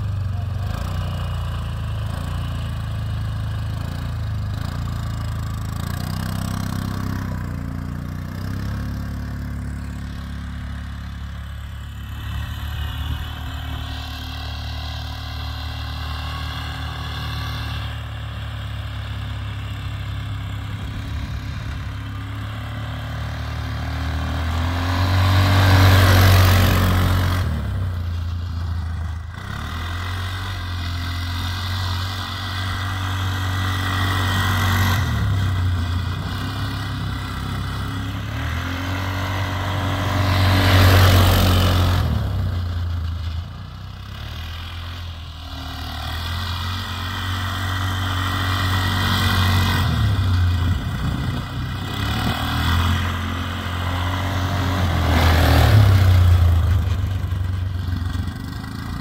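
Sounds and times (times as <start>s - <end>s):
atv engine passing: 0.0s - 59.0s.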